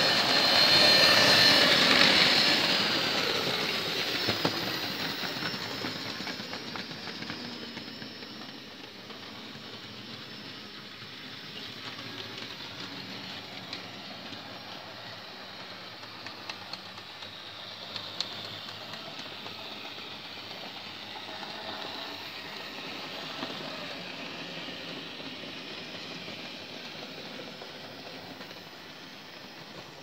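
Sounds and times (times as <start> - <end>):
model train whirring on track: 0.0 - 30.0.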